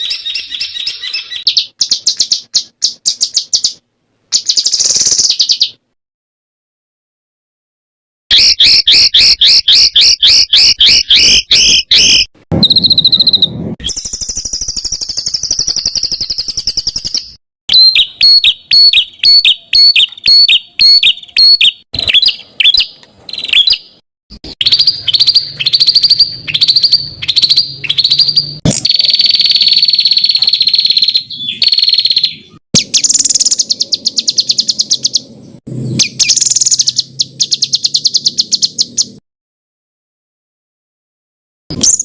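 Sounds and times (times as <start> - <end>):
songbird singing: 0.0 - 5.8, 8.3 - 24.0, 24.6 - 39.2.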